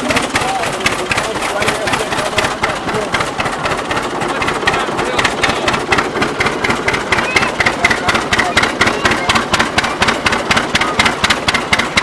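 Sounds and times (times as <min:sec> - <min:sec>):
threshing machine clatter: 0:00.0 - 0:12.0
tractor engine running: 0:00.0 - 0:12.0.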